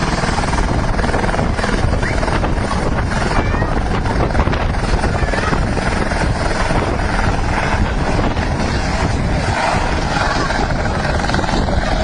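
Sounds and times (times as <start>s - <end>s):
helicopter rotor chop: 0.0s - 12.0s.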